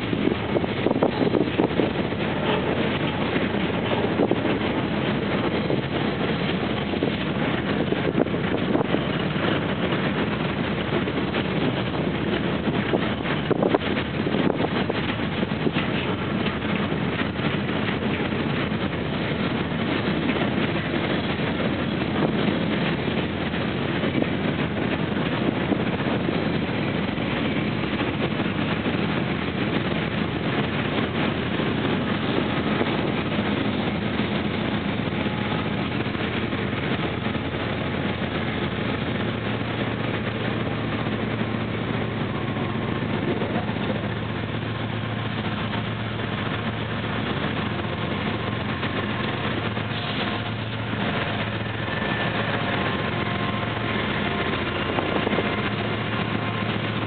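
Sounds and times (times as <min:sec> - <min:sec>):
diesel locomotive drone: 0:00.0 - 0:57.0
train wheels on rails: 0:00.0 - 0:57.0.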